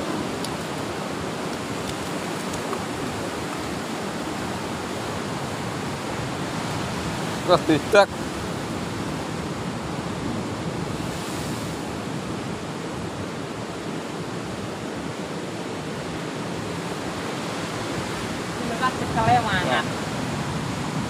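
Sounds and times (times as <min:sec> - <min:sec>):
sea surf rushing: 0:00.0 - 0:21.0.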